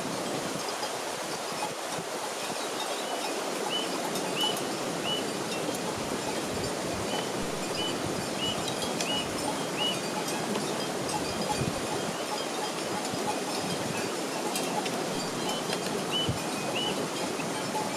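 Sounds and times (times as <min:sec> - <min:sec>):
running water: 0:00.0 - 0:17.9.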